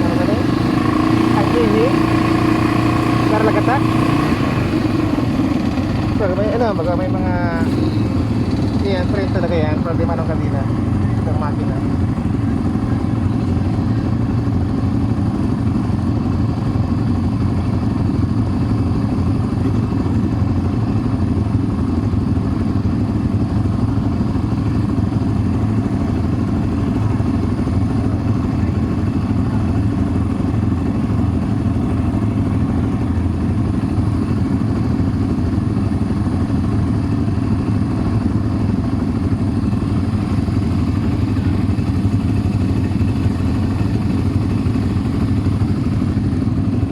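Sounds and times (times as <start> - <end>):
atv engine rumbling: 0.0 - 46.9.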